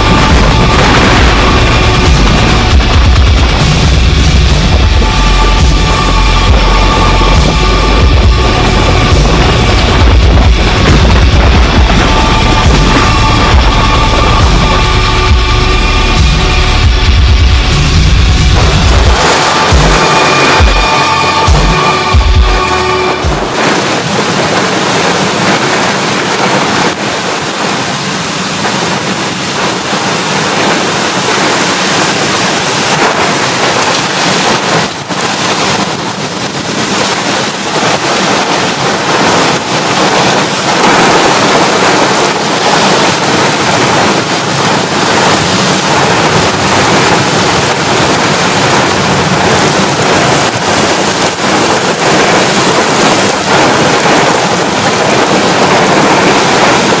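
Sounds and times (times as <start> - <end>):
heavy rain: 0.0 - 57.0
wind buffeting microphone: 0.0 - 57.0.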